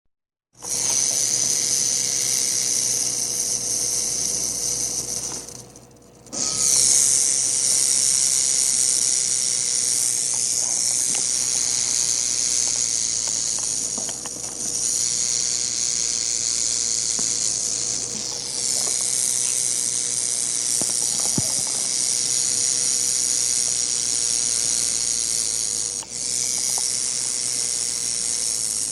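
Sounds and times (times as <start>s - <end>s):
rattlesnake tail rattle buzzing: 0.6s - 28.9s.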